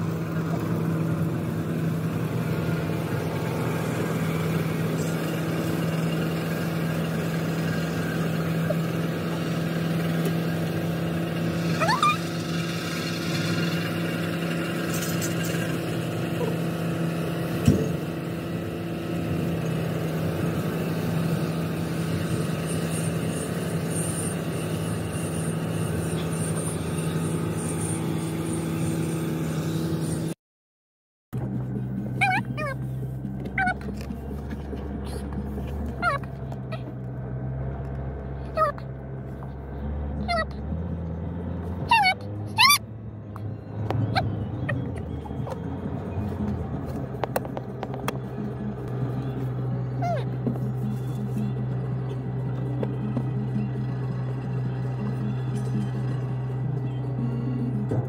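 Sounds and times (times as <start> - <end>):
tractor engine droning: 0.0 - 30.4, 31.4 - 58.0.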